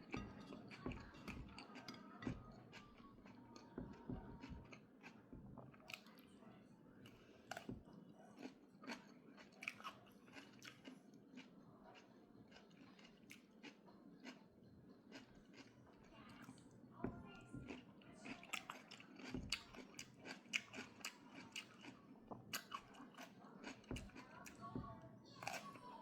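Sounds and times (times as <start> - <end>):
person chewing food: 0.0 - 6.3, 7.0 - 16.8, 17.6 - 24.7.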